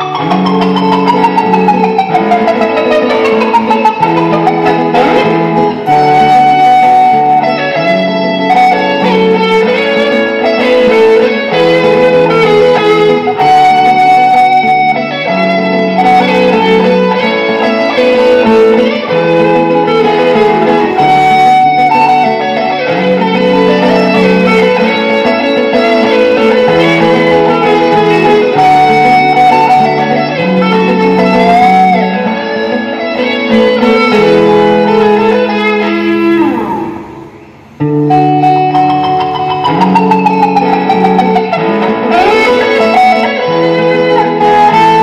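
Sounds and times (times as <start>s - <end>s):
electric guitar melody: 0.0s - 45.0s.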